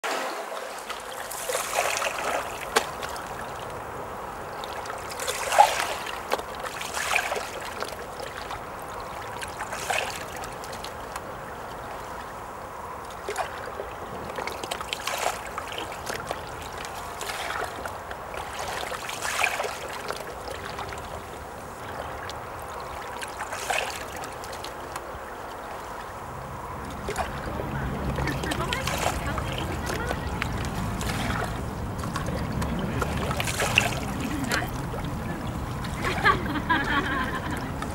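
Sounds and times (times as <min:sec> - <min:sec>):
light water splashes: 0:00.0 - 0:37.9
water trickling and lapping: 0:00.0 - 0:37.9.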